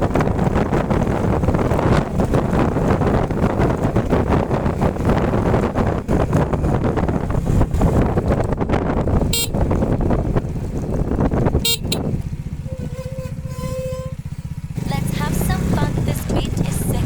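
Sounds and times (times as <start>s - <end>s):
motorcycle engine running: 0.0s - 17.0s
wind on microphone: 0.0s - 17.0s.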